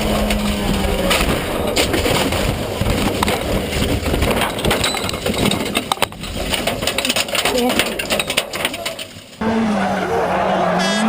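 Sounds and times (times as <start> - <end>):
sharp knocks and cracks: 0.0 - 9.4
car scraping and rumbling: 0.0 - 11.0
rally car engine: 0.0 - 11.0.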